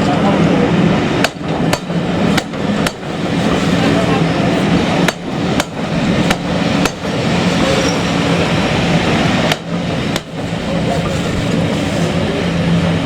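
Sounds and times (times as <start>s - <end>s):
train rumbling past: 0.0s - 13.0s
wheels clanking on rail joints: 1.1s - 13.0s.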